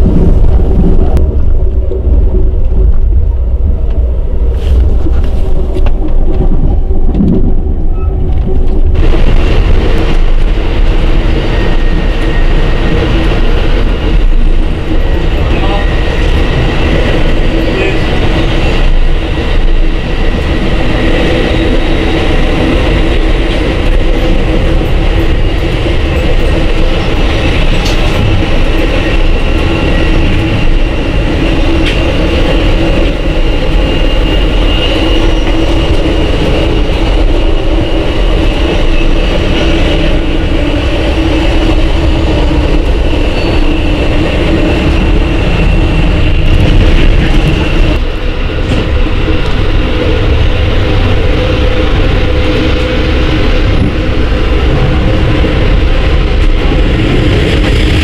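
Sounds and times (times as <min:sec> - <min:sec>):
high whine: 0:00.0 - 0:58.0
low hum: 0:00.0 - 0:58.0
train wheels rumbling on rail: 0:00.0 - 0:58.0.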